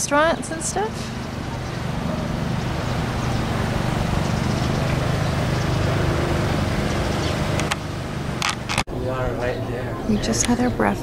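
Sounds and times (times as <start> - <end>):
engine running with low hum: 0.0 - 10.9.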